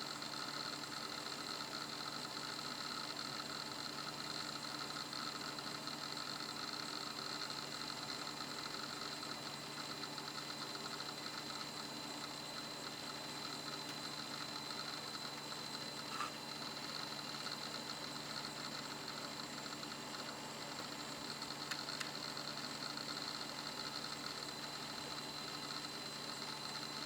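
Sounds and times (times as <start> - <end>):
hard disk drive spinning hum: 0.0 - 27.0.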